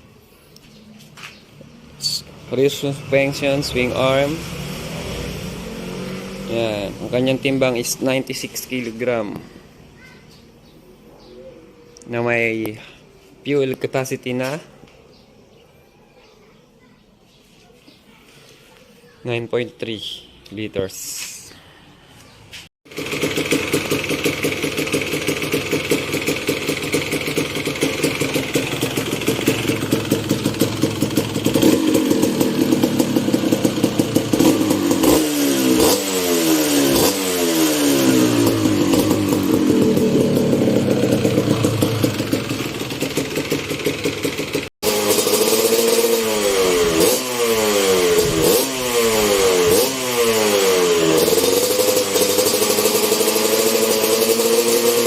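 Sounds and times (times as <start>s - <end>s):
motorcycle engine idling and revving: 0.1s - 13.3s, 22.4s - 55.0s.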